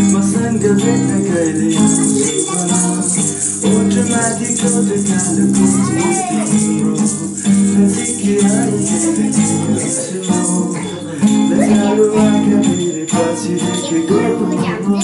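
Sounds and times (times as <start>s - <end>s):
acoustic guitar strumming: 0.0s - 15.0s
hand-shaken rattle jingling: 0.0s - 15.0s
man singing: 0.0s - 15.0s.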